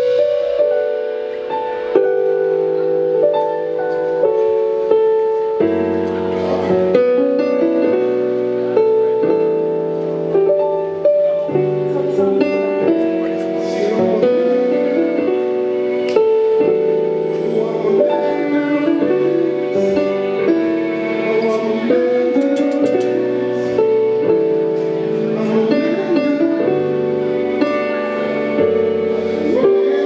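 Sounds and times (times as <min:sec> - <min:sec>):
live band playing sustained chords: 0:00.0 - 0:30.0.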